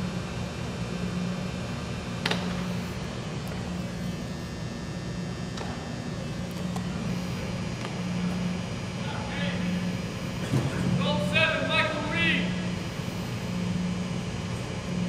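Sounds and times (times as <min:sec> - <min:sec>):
low hum of indoor hall: 0:00.0 - 0:15.0.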